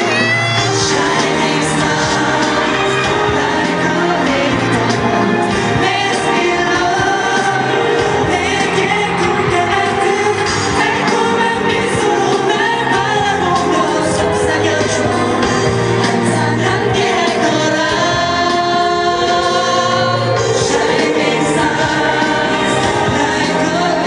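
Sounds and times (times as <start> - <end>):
instrumental backing music: 0.0 - 24.0.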